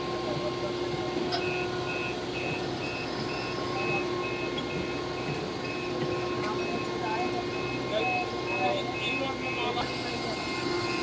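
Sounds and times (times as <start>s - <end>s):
reversing alarm beeping: 0.0s - 11.0s.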